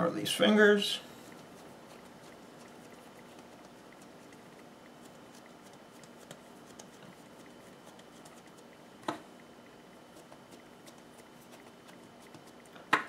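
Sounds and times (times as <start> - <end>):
fingers patting dough: 1.3 - 13.0.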